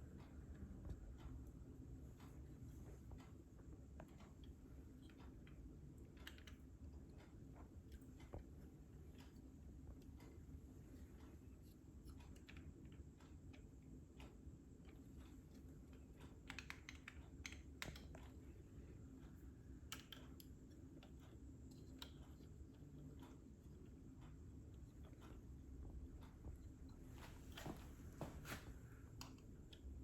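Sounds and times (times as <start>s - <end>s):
light clicks and taps: 0.0s - 30.0s
low steady hum: 0.0s - 30.0s.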